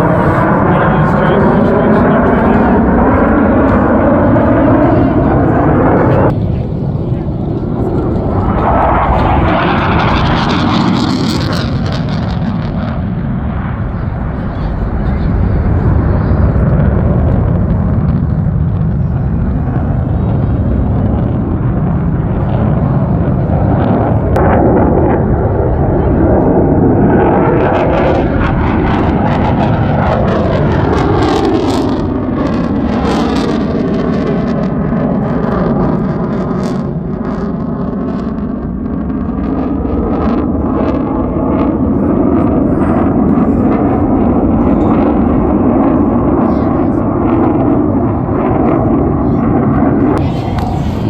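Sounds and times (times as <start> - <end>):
jet aircraft roar: 0.0 - 51.0.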